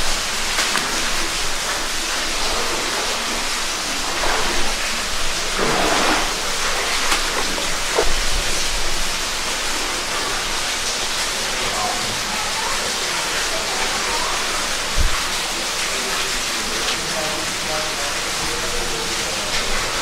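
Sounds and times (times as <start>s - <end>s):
falling water echoing in cave: 0.0s - 20.0s.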